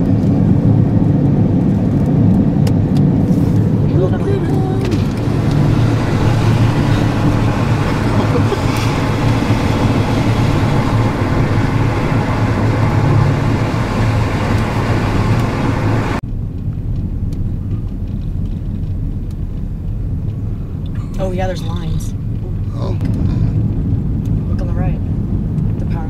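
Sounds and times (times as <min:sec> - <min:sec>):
tyre and road rush: 0:00.0 - 0:26.0
vehicle engine hum: 0:00.0 - 0:26.0.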